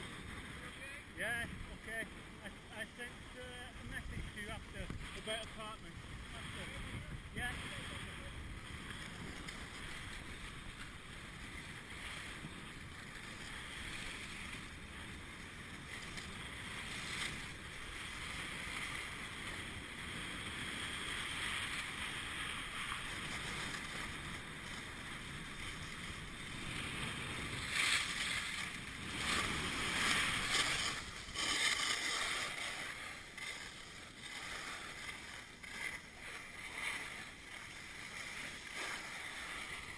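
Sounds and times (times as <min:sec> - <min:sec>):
skis scraping over snow: 0:00.0 - 0:39.9
wind on microphone: 0:00.0 - 0:39.9.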